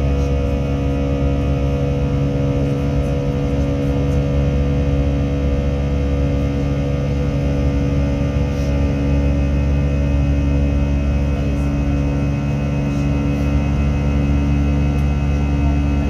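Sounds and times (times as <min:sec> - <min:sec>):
jet engines droning in cabin: 0:00.0 - 0:16.0.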